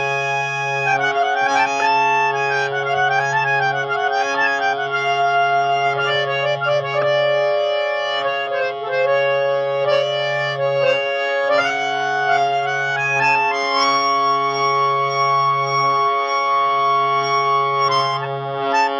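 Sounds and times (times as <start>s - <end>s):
harmonium playing melody: 0.0s - 18.9s.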